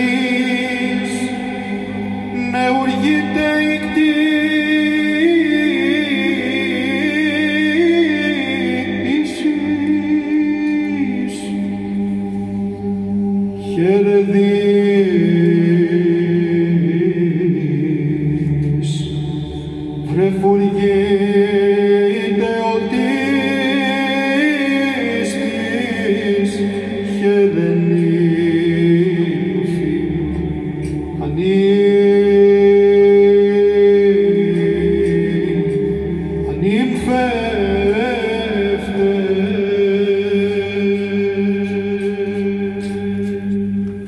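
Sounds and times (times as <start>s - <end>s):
held vocal drone: 0.0s - 44.0s.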